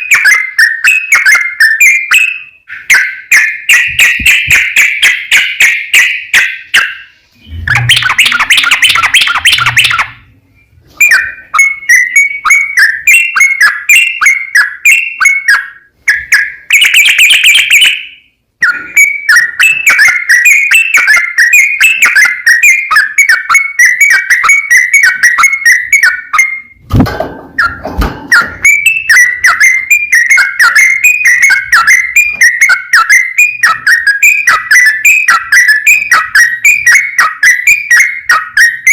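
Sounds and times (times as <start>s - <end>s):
bird singing rapid chirping notes: 0.0s - 26.8s, 27.6s - 38.9s.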